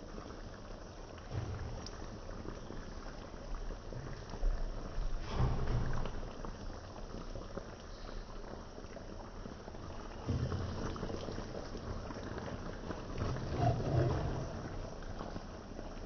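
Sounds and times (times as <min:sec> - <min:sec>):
sauce bubbling in a pan: 0:00.0 - 0:16.0.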